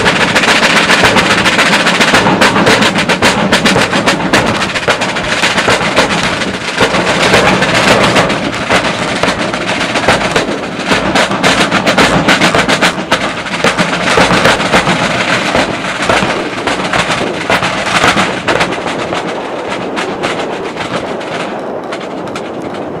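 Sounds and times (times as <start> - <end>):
drum corps rapid drumming: 0.0 - 23.0.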